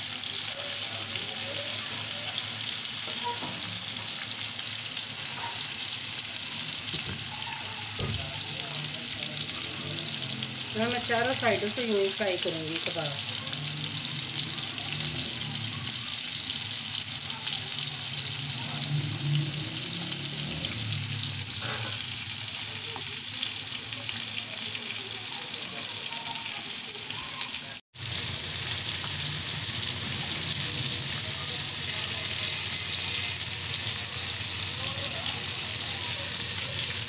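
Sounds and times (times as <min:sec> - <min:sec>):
meat sizzling on griddle: 0:00.0 - 0:37.0.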